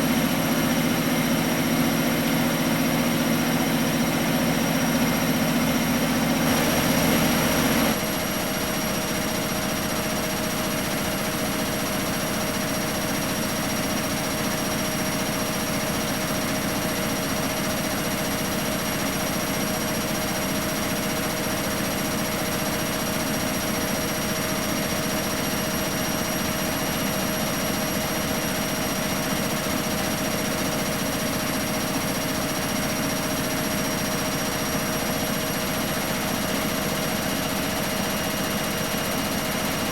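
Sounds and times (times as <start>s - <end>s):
washing machine whine: 0.0s - 39.9s.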